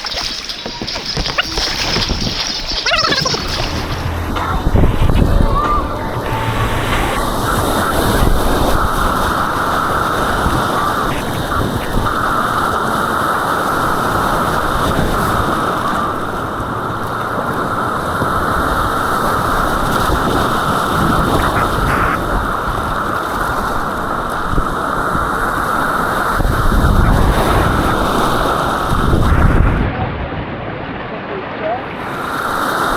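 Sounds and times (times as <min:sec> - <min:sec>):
rushing white water roar: 0:00.0 - 0:32.9
low rumbling: 0:01.0 - 0:22.6, 0:26.8 - 0:32.2.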